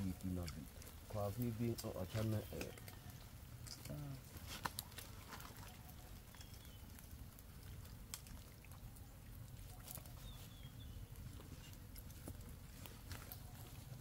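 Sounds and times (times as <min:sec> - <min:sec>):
small clicks and crackles: 0:00.0 - 0:14.0.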